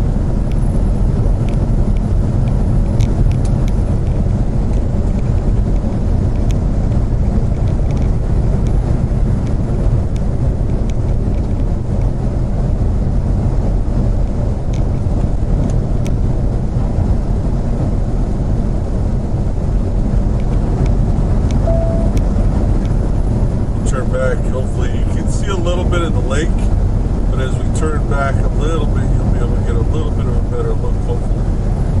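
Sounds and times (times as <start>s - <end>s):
car road noise from inside: 0.0s - 32.0s.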